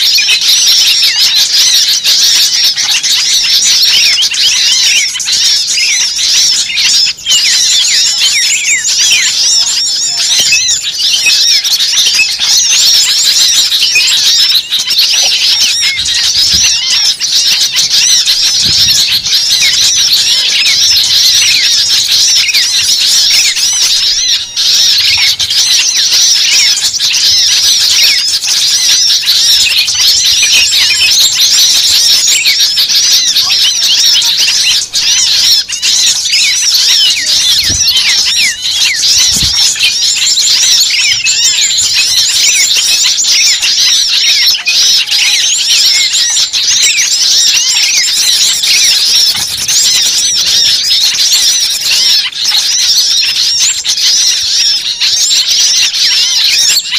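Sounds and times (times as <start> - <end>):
small birds chattering and twittering: 0.0 - 56.9.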